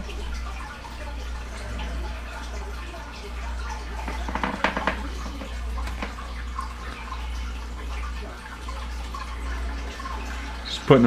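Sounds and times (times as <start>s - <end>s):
water sloshing and dripping: 0.0s - 11.0s.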